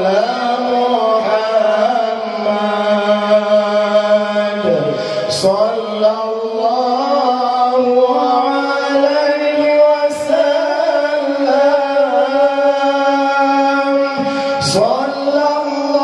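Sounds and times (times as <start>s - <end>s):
two men singing a duet: 0.0s - 16.0s.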